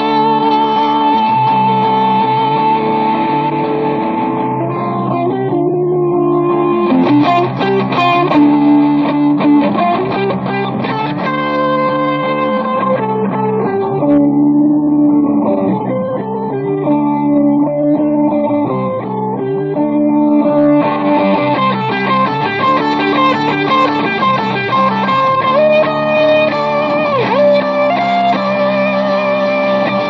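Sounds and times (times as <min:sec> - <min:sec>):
electric guitar playing hard rock: 0:00.0 - 0:30.0.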